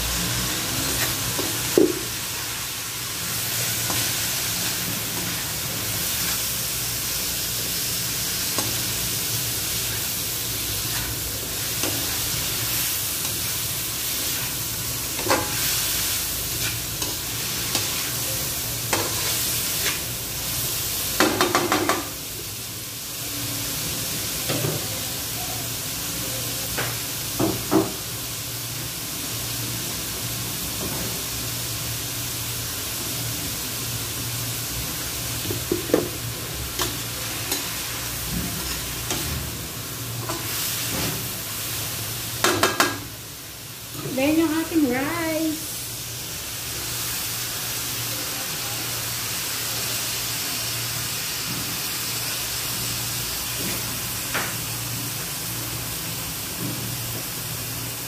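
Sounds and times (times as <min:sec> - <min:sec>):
food sizzling in a wok: 0:00.0 - 0:58.0.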